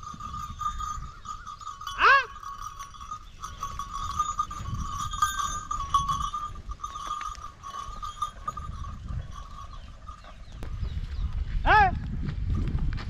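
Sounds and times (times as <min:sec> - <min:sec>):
bullock bells ringing: 0:00.0 - 0:11.3.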